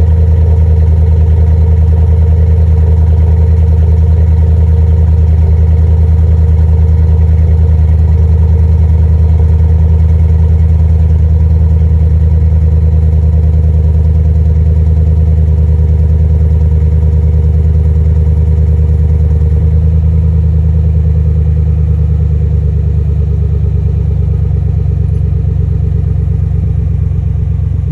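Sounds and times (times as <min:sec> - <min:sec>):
truck engine idling: 0:00.0 - 0:27.9.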